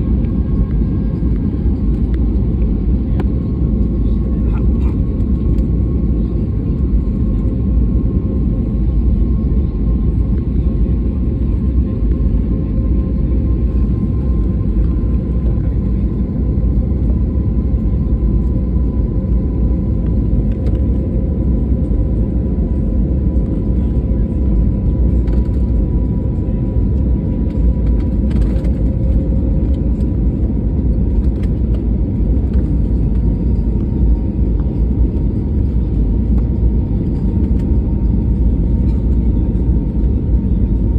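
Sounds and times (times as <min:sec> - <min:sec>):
airliner engine and airflow rumble: 0:00.0 - 0:40.9.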